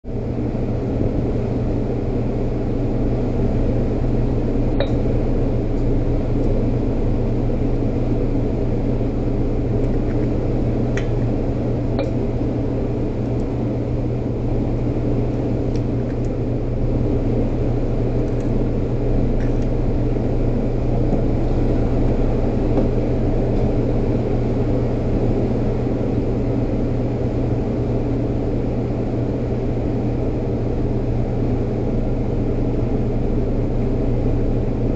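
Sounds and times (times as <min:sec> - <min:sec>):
loud mechanical hum: 0:00.0 - 0:34.9.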